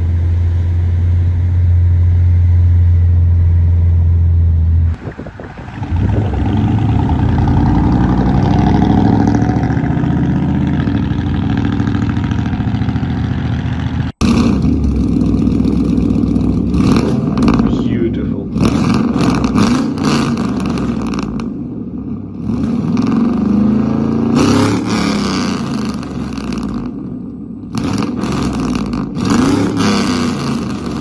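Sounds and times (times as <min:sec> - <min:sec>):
loud truck exhaust: 0:00.0 - 0:31.0.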